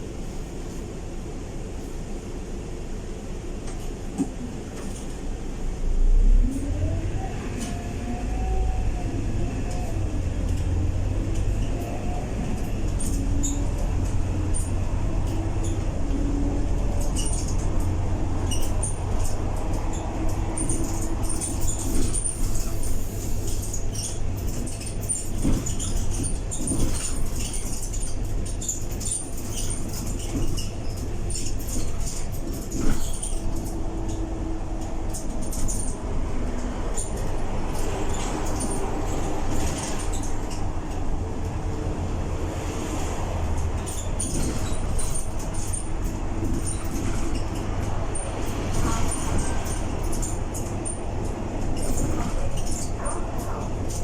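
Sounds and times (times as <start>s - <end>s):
bus engine and road rumble: 0.0s - 54.0s
rattles and clicks from bus body: 0.0s - 54.0s.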